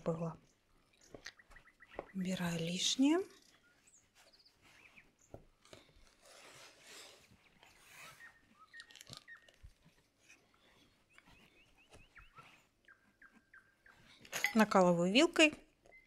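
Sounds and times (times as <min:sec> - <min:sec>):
rustling dough: 0:00.7 - 0:14.2.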